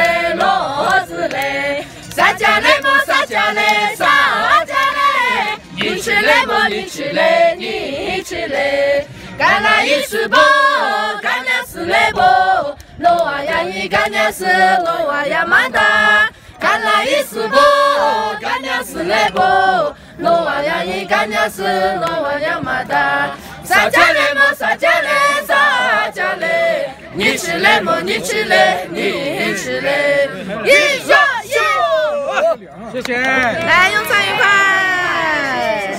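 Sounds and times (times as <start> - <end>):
group singing unaccompanied folk song: 0.0 - 32.3.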